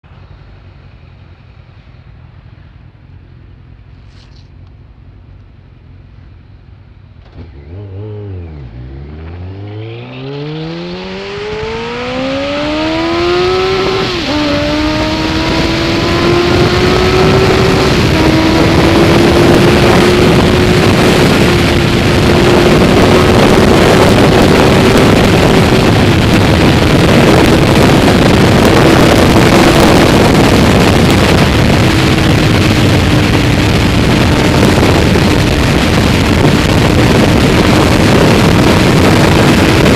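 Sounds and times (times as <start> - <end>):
motorcycle engine accelerating: 2.4 - 39.9
wind noise: 7.0 - 39.9.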